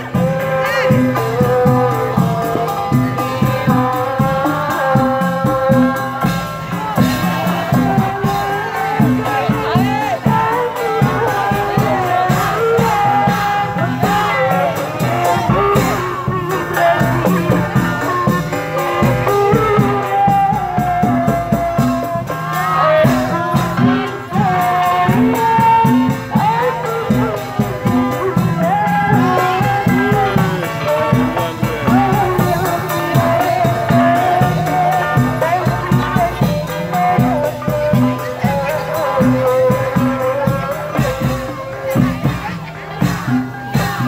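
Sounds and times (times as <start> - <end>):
crowd noise: 0.0 - 44.0
drums beating a steady rhythm: 0.0 - 44.0
jingling percussion: 0.0 - 44.0.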